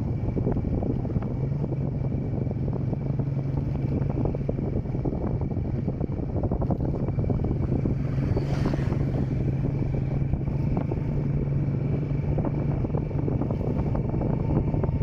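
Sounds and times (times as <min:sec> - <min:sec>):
motorcycle engine running: 0:00.0 - 0:15.0
oncoming motorcycle passing: 0:00.0 - 0:15.0
wind rushing over microphone: 0:00.0 - 0:15.0.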